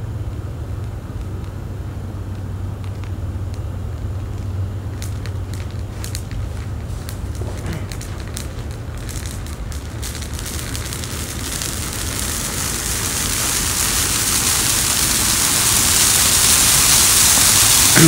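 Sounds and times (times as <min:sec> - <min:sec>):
fire crackling: 0:00.0 - 0:18.0
rushing hiss of flame: 0:00.1 - 0:18.0.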